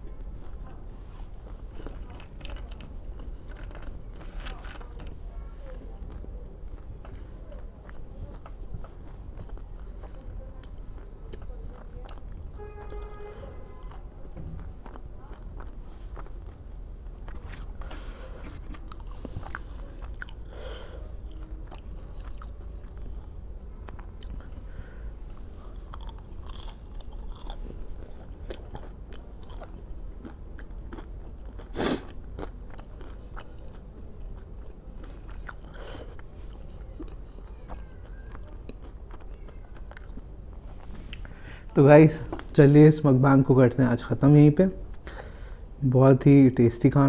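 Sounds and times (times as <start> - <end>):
person chewing and crunching: 0.0 - 41.5.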